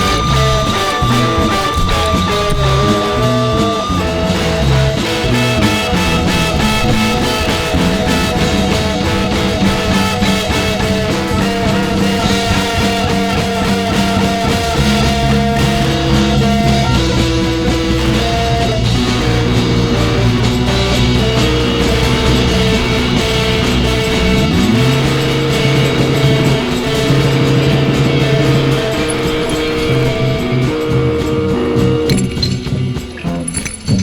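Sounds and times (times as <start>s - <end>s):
heavy bass line: 0.0s - 34.0s
rock band playing: 0.0s - 34.0s.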